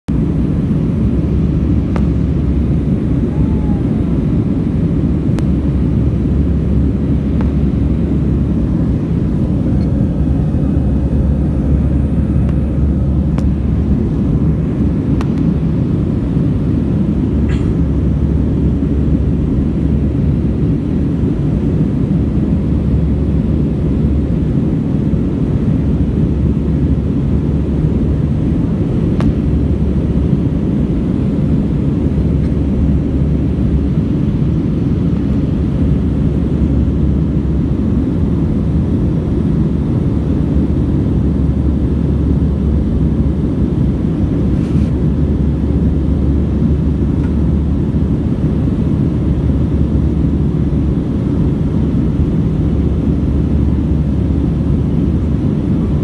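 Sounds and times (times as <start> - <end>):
jet airliner cabin rumble: 0.1 - 56.0.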